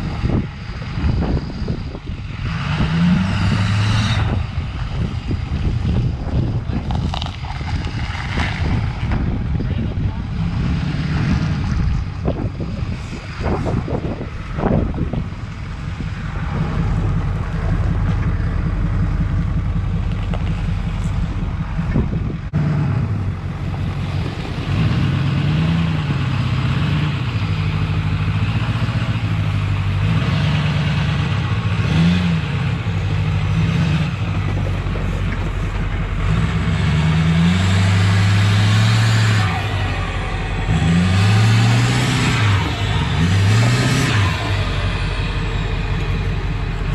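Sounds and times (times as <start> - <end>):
diesel truck engine running: 0.0 - 46.9.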